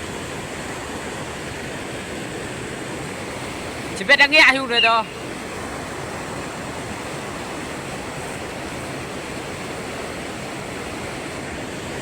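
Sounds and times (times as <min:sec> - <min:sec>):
rush of flowing water: 0:00.0 - 0:12.0.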